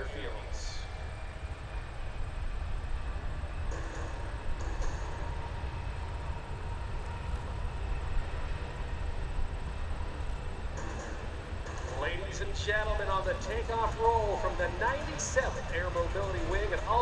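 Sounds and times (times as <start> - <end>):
faint jet whine: 0.0 - 17.0
jet engines rumbling: 0.0 - 17.0.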